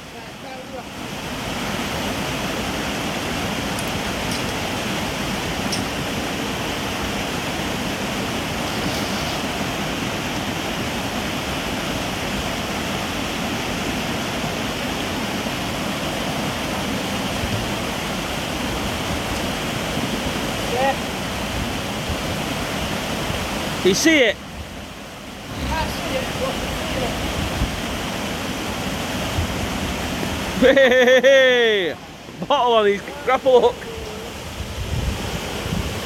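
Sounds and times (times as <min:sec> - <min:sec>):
running water: 0:00.0 - 0:36.0.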